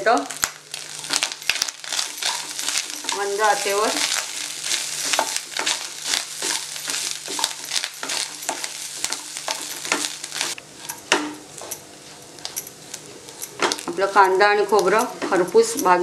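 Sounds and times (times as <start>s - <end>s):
light sizzle of frying: 0.0s - 16.0s
spatula scraping a pan: 0.8s - 11.1s, 11.9s - 16.0s.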